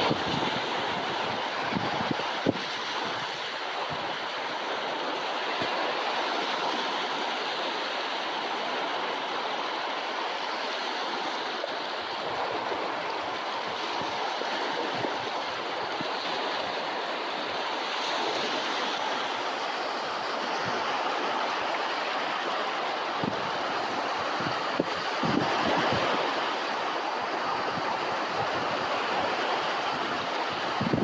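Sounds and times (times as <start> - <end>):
ocean surf breaking on beach: 0.0 - 31.0.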